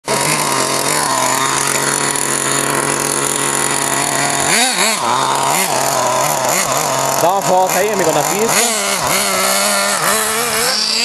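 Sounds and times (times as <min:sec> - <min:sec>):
small engine idling and revving: 0:00.0 - 0:11.0.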